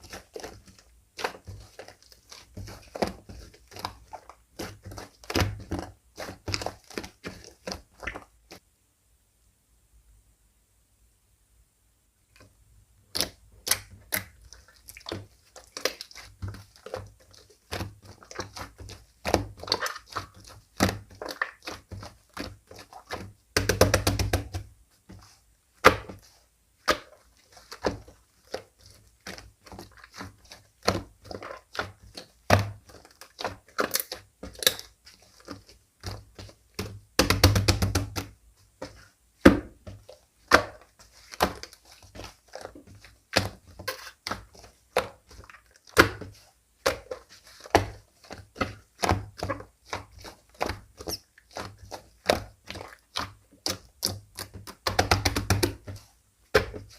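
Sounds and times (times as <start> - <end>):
slime squished by hand: 0.0 - 8.6, 13.1 - 56.9.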